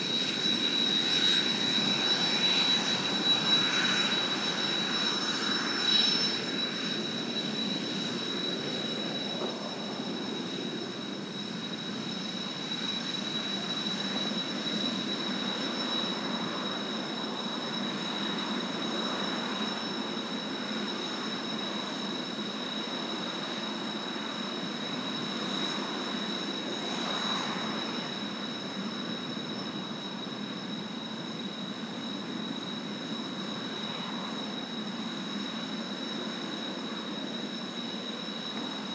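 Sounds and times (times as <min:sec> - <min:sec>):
distant jet aircraft rumble: 0:00.0 - 0:38.9.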